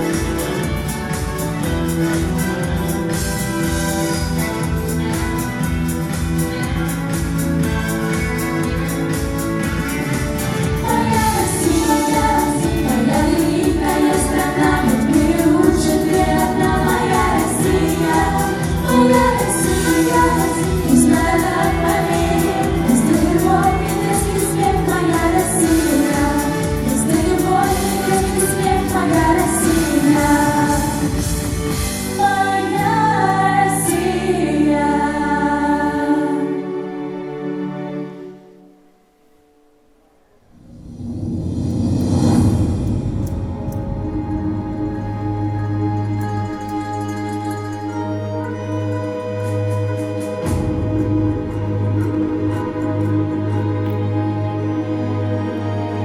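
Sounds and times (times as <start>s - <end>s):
song with instrumental beat: 0.0s - 33.4s, 41.7s - 55.4s.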